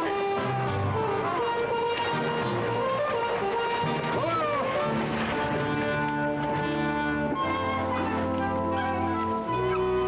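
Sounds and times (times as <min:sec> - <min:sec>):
orchestral music: 0:00.0 - 0:10.0.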